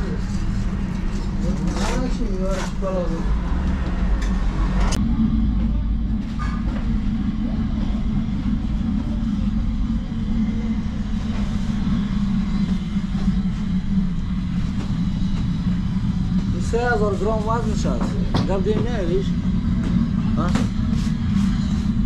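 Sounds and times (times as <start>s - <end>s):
deep rumble: 0.0s - 22.0s
low mechanical drone: 0.0s - 22.0s.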